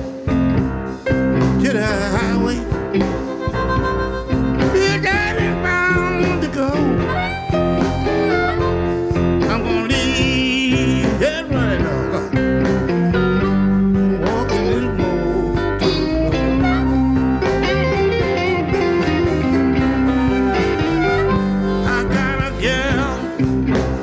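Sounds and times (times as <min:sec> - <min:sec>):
live blues band playing: 0:00.0 - 0:24.0
person singing: 0:01.5 - 0:08.8, 0:09.4 - 0:12.5, 0:13.4 - 0:23.6
harmonica: 0:01.6 - 0:24.0.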